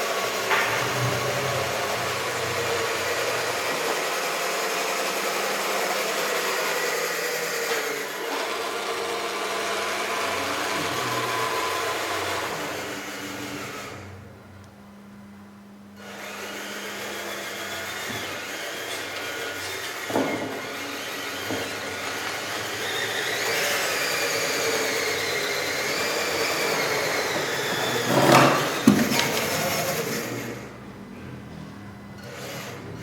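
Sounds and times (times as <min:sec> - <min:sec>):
small electric motors whirring: 0:00.0 - 0:14.1, 0:16.0 - 0:30.7, 0:32.2 - 0:33.0.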